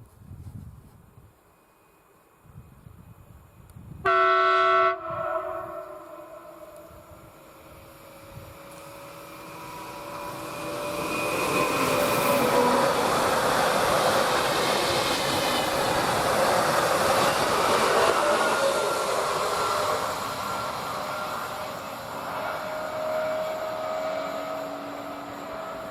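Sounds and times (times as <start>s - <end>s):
electric train passing: 1.5s - 25.9s.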